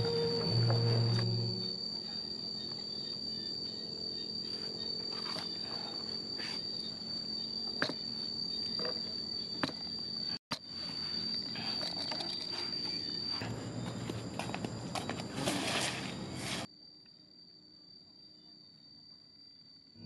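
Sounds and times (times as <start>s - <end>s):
high-pitched insect whine: 0.0s - 20.0s.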